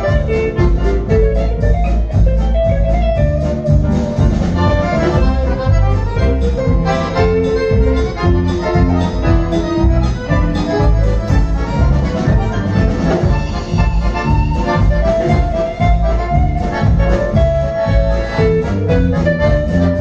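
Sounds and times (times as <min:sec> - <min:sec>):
accordion melody: 0:00.0 - 0:20.0
live band bass and drums: 0:00.0 - 0:20.0.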